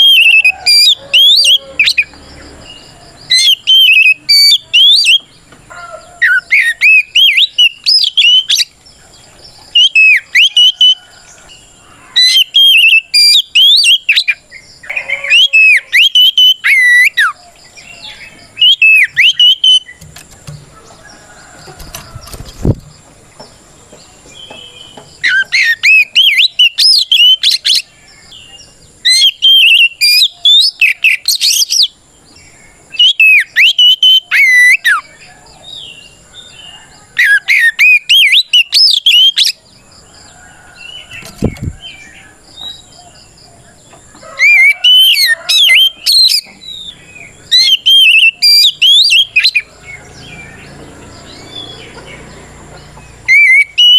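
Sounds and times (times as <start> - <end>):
bird singing whistled notes: 0.0 - 5.5, 6.2 - 8.8, 9.6 - 11.6, 12.2 - 20.1, 24.2 - 43.4, 44.2 - 52.1, 52.8 - 53.9.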